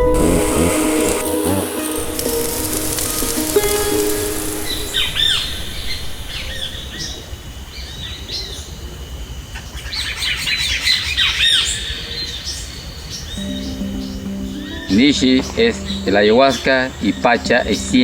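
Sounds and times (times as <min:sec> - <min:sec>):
birds chirping: 0:00.0 - 0:09.0, 0:09.6 - 0:18.0.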